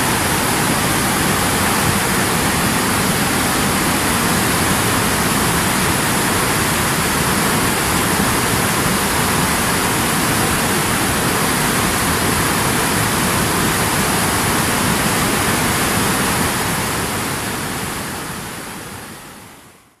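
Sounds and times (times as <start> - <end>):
river water rushing over rocks: 0.0 - 19.7.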